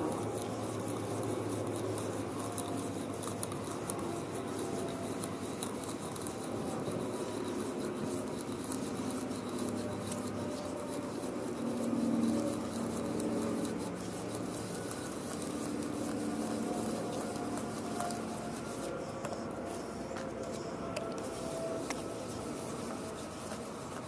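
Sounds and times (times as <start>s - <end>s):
auger scraping wood chips: 0.0s - 24.0s
drill droning: 0.0s - 24.0s.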